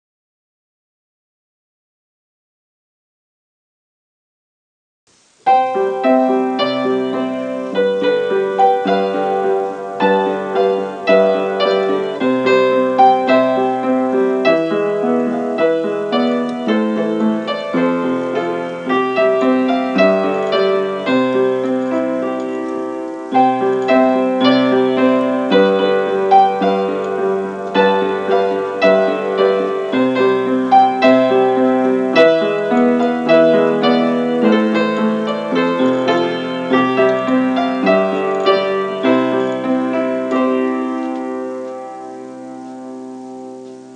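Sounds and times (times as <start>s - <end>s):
upright piano playing: 5.4s - 43.9s.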